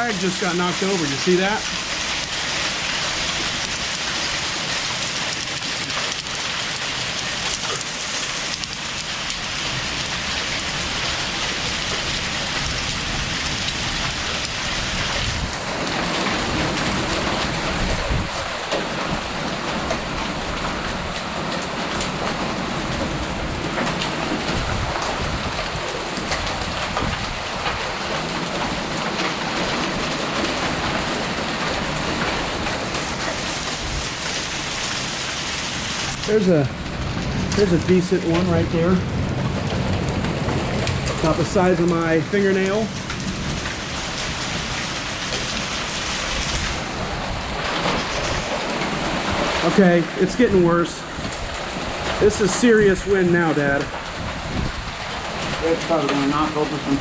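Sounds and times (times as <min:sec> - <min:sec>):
heavy rain pouring: 0:00.0 - 0:57.0
wind rumbling on microphone: 0:08.4 - 0:57.0.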